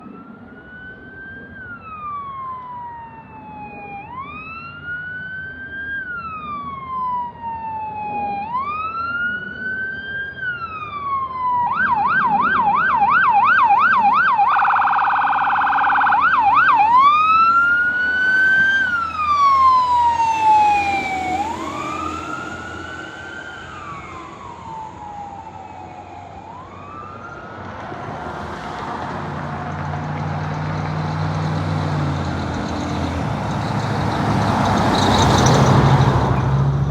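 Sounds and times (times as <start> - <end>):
fire engine siren: 0.0 - 36.9.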